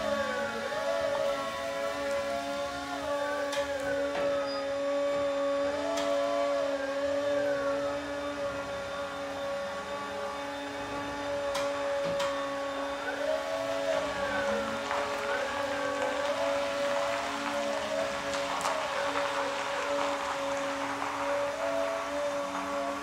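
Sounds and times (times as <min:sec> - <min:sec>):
electric forklift motor whine: 0:00.0 - 0:23.0.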